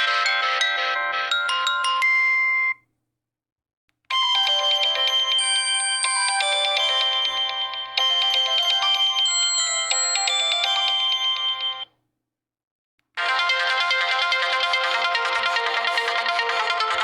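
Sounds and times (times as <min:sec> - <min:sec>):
electronic ringtone melody: 0:00.0 - 0:02.7, 0:04.1 - 0:11.9, 0:13.2 - 0:17.0
many-note ringtone melody: 0:00.0 - 0:02.7, 0:04.1 - 0:11.9, 0:13.2 - 0:17.0.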